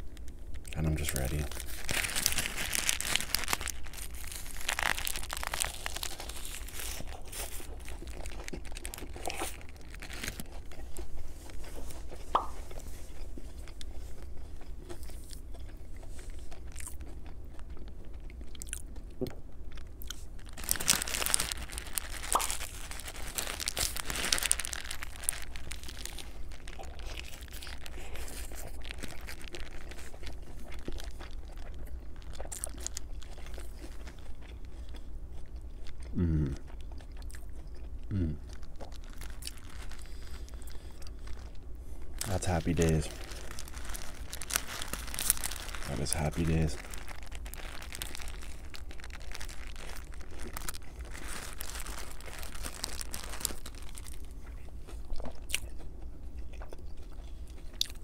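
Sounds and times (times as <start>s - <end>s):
crunchy biting and chewing: 0.0s - 58.0s.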